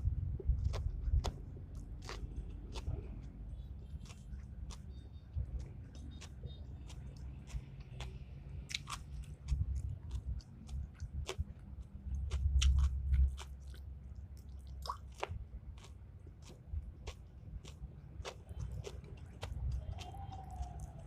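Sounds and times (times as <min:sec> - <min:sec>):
low rumble: 0:00.0 - 0:21.0
person chewing food: 0:00.0 - 0:21.0.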